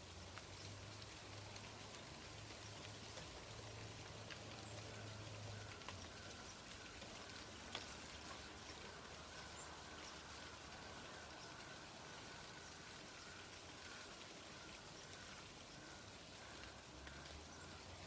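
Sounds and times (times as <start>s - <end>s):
dry leaves landing on lawn: 0.0s - 18.0s
soft steady hiss: 0.0s - 18.0s.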